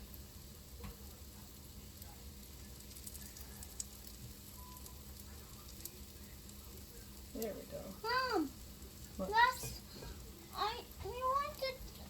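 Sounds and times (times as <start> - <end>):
pancake batter sizzling: 0.0 - 12.0.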